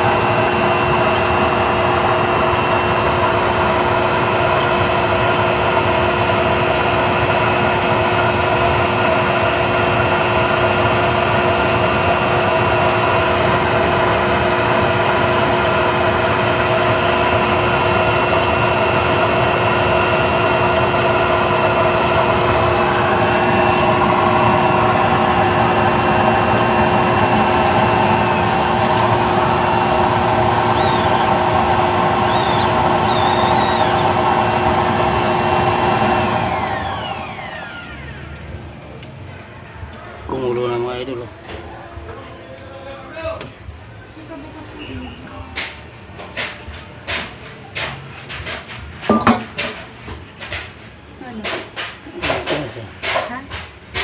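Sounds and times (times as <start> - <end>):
steady hum: 0.0 - 54.0
stove blower and flame whir: 0.0 - 54.0.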